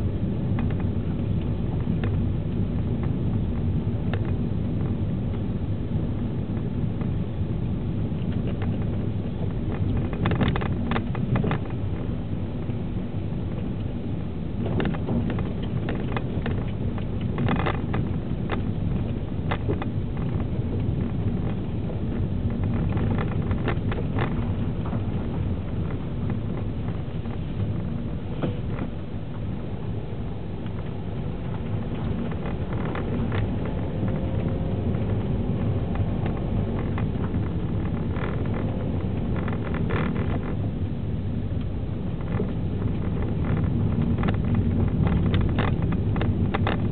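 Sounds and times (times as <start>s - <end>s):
car engine and tyre noise: 0.0s - 46.9s.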